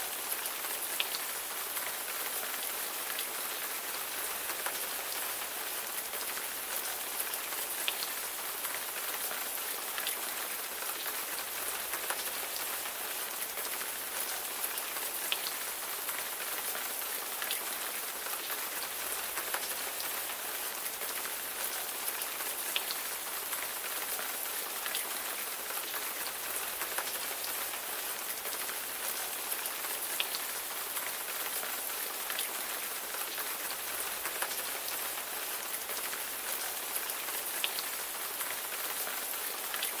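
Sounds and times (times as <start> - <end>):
rain falling on a surface: 0.0 - 40.0.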